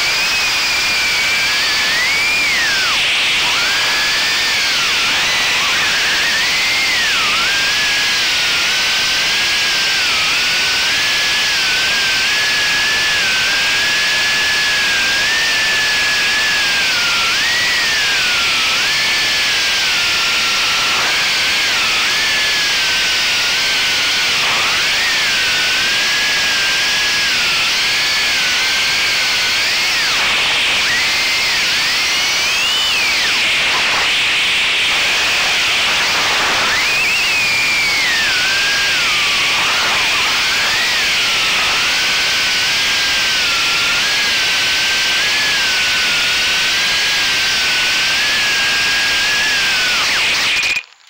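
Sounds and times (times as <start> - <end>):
loud steady hiss: 0.0 - 50.8
quadcopter motor whine: 0.0 - 51.0.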